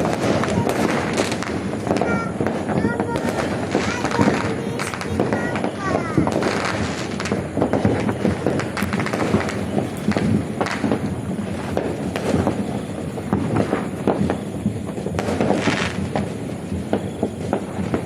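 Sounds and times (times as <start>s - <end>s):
fireworks popping and banging: 0.0s - 18.0s.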